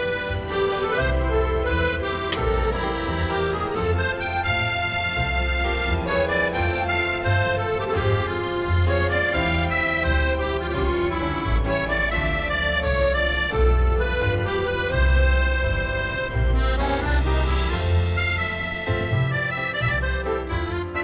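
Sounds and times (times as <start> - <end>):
accordion background music: 0.0 - 21.0.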